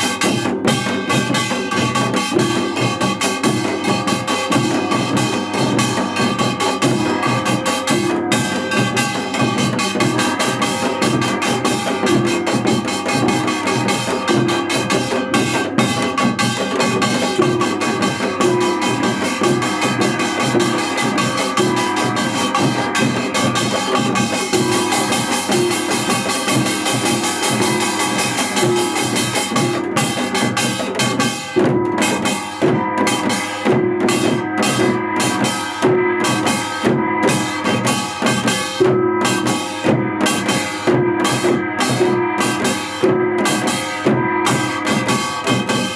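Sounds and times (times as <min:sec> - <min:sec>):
cymbal wash: 0:00.0 - 0:45.9
drum kit beat: 0:00.0 - 0:45.9
sustained pitched notes: 0:00.0 - 0:45.9.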